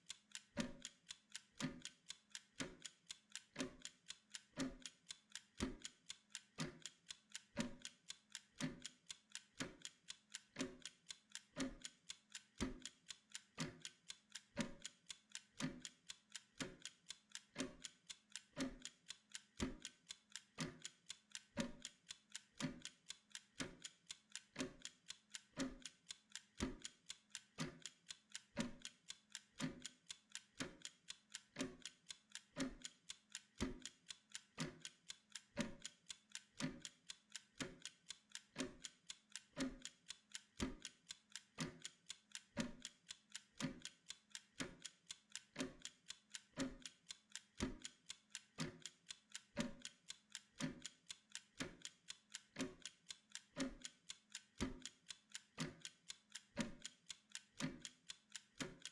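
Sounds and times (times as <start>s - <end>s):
mechanical timer ticking: 0.0s - 58.9s.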